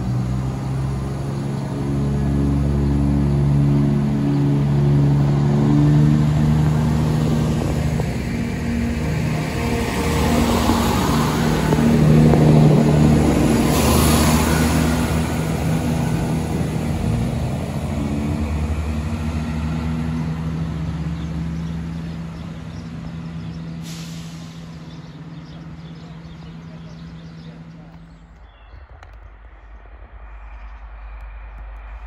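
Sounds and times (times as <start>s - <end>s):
diesel train engines humming: 0.0s - 32.0s.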